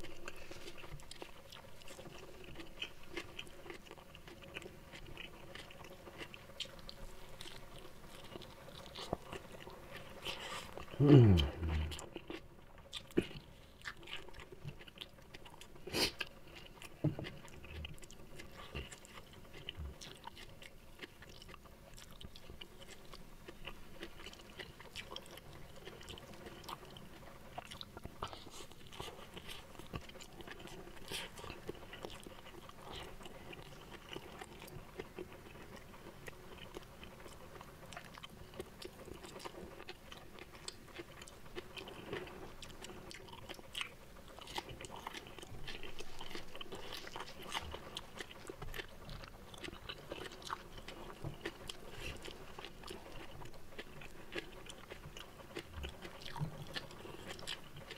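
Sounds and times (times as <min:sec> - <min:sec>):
person chewing food: 0:00.0 - 0:57.9.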